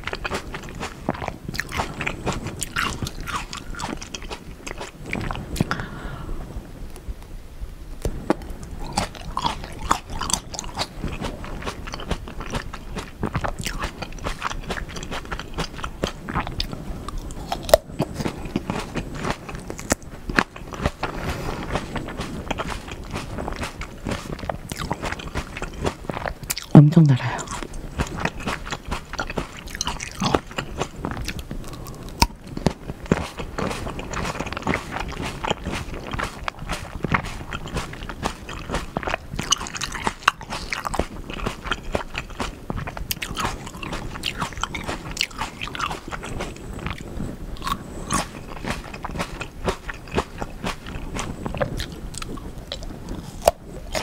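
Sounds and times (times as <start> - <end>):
chewing grapes: 0.0 - 5.9, 8.3 - 54.0.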